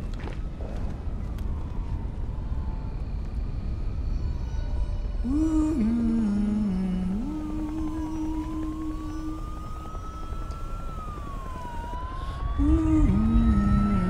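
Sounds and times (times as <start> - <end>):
film score music: 0.0 - 14.0
low rumble: 0.0 - 14.0
siren wailing: 0.0 - 14.0.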